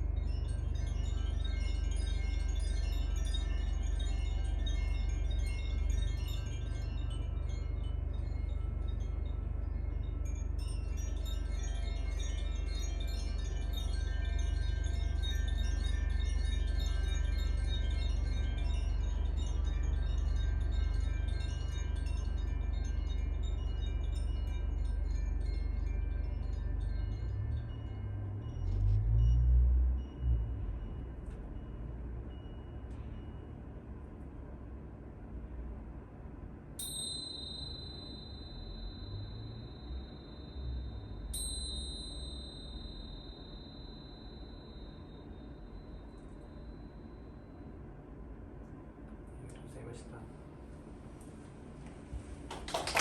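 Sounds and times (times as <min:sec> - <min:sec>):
carillon bells ringing: 0:00.0 - 0:34.5, 0:36.8 - 0:48.0
steady low hum: 0:00.0 - 0:53.0.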